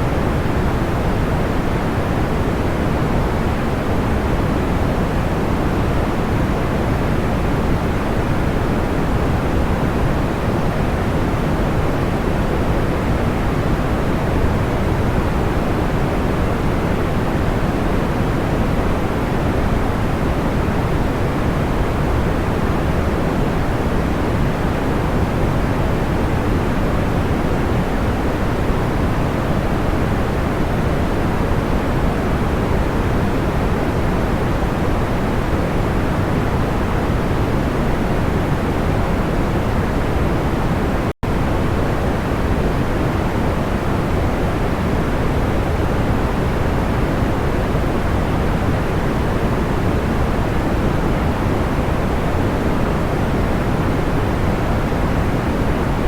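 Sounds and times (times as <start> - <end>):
soft white noise: 0.0 - 56.0.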